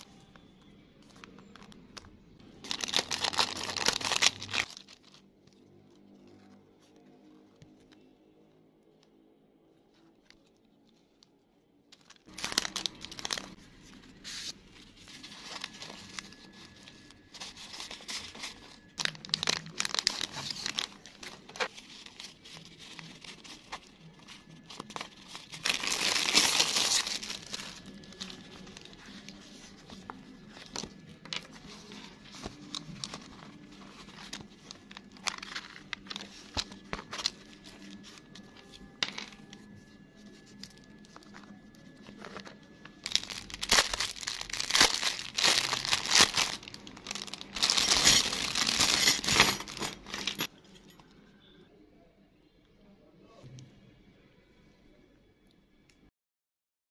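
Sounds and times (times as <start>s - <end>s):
packaging crinkling and rustling: 0.0s - 8.0s, 9.9s - 50.5s.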